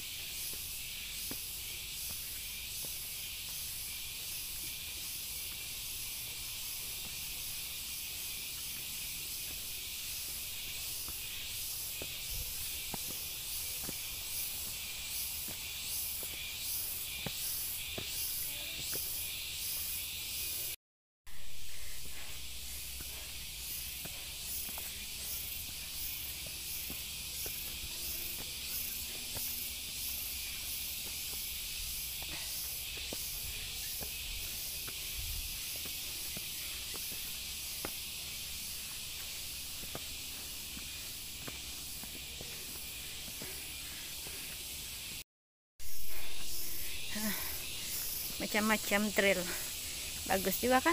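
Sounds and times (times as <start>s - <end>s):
footsteps on dirt trail: 0.0s - 20.7s, 21.7s - 45.2s, 45.8s - 50.9s
rainforest insects chorus: 0.0s - 45.2s, 45.8s - 50.9s.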